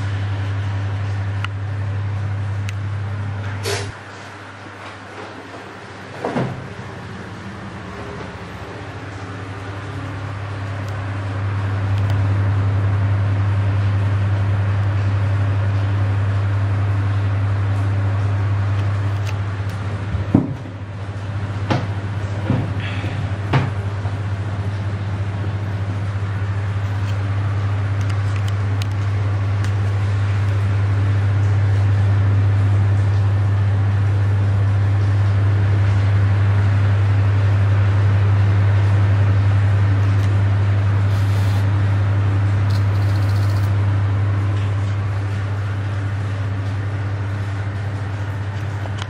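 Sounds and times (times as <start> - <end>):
exhaust fan humming: 0.0 - 49.0.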